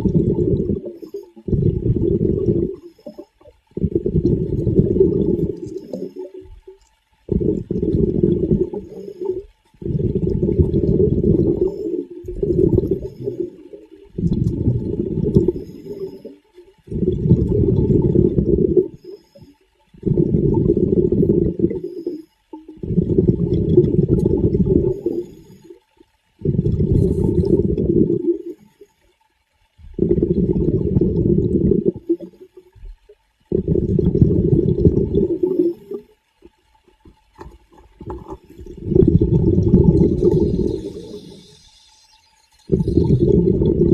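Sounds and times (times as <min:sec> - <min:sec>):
muffled rushing gurgling water: 0:00.0 - 0:43.9.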